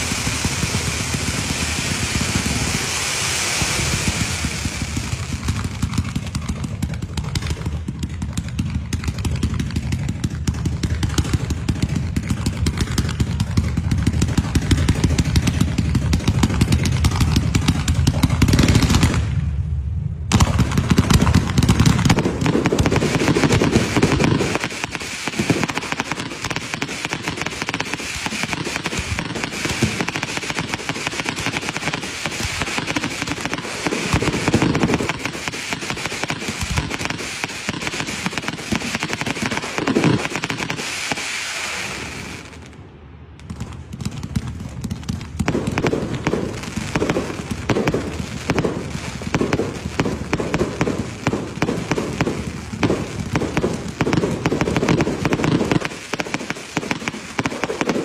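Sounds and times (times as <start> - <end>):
fireworks crackling pops: 0.0 - 19.6, 20.3 - 58.0
heavy firework booms: 0.0 - 58.0.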